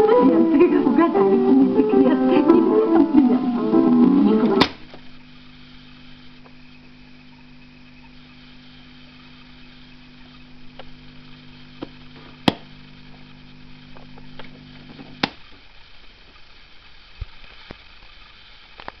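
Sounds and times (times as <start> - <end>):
tape deck humming: 0.0 - 16.4.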